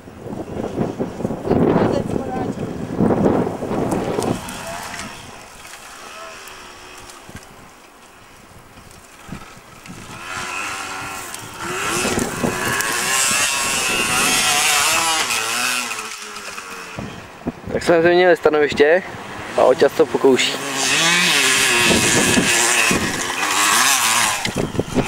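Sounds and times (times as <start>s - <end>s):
motorcycle engine revving: 0.6s - 7.6s, 9.2s - 17.6s, 19.0s - 25.0s.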